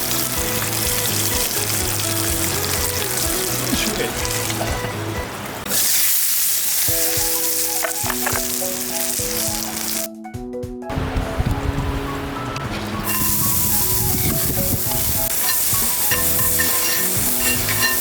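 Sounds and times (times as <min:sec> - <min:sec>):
steak sizzling in a skillet: 0:00.0 - 0:05.1, 0:05.7 - 0:10.1, 0:13.0 - 0:18.0
music with held notes: 0:00.0 - 0:05.6, 0:06.9 - 0:18.0.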